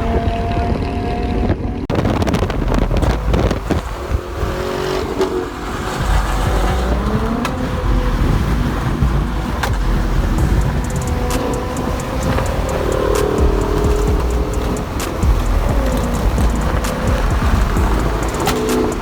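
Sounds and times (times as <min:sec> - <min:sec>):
car engines running: 0:00.0 - 0:19.0.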